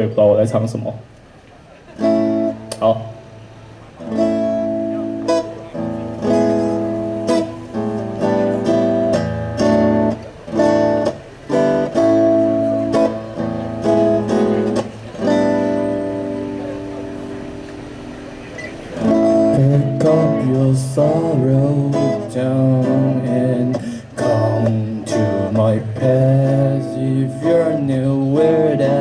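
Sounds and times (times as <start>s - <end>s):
acoustic guitar strumming chords: 2.0s - 29.0s.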